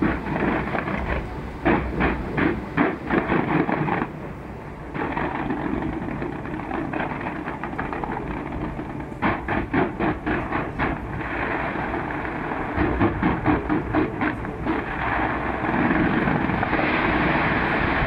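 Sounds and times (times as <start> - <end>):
fireworks bangs: 0.0 - 4.3, 4.9 - 18.0
steady noise: 0.0 - 18.0.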